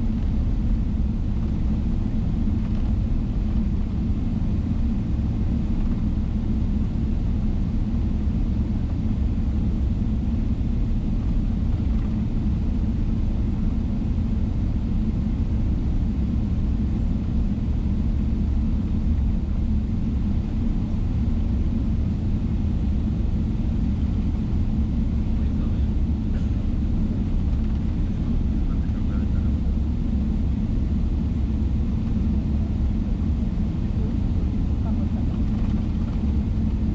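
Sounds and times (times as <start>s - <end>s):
aircraft cabin rumble: 0.0s - 36.9s.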